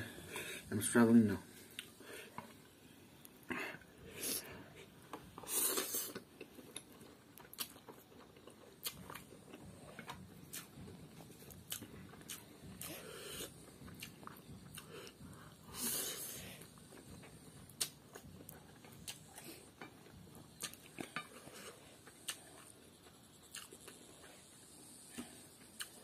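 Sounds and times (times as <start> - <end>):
man chewing noodles: 1.6 - 26.0.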